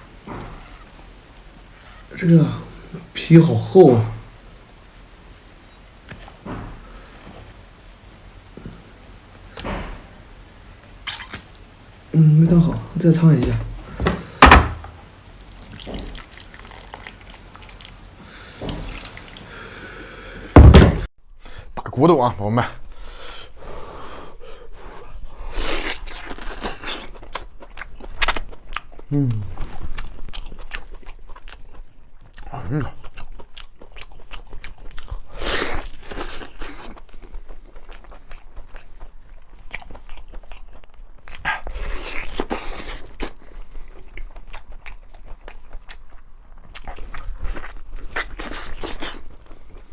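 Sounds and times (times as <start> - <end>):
person chewing and crunching food: 0.0 - 20.6, 23.0 - 49.9.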